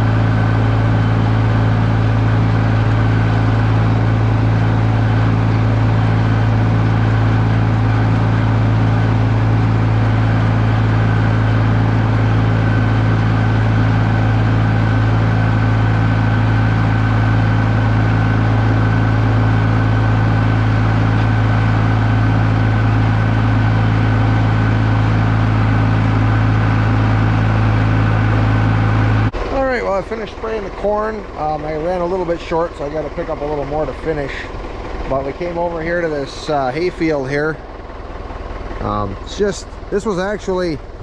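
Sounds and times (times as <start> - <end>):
tractor engine droning: 0.0 - 41.0.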